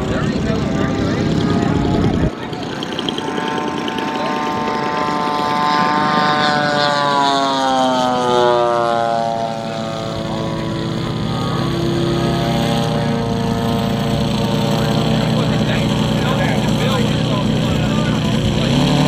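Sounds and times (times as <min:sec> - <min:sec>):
model plane engine droning: 0:00.0 - 0:19.0.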